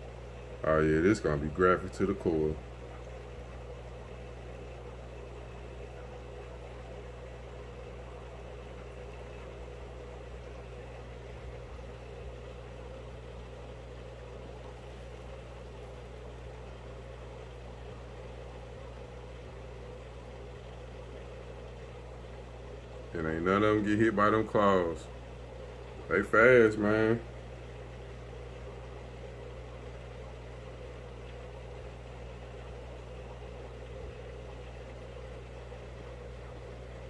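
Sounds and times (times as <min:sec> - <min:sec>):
aquarium equipment humming: 0:00.0 - 0:37.0.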